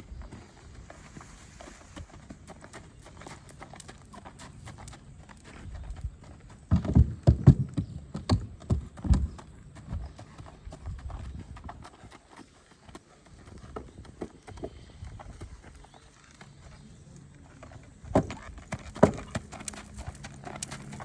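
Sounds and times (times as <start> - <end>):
horse hoofbeats: 0.2 - 21.0.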